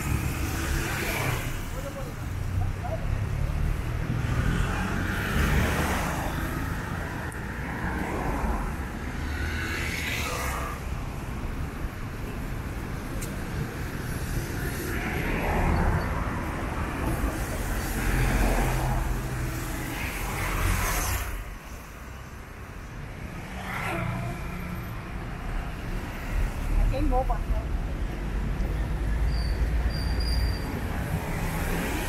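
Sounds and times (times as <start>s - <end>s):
vehicles passing by: 0.0s - 32.0s.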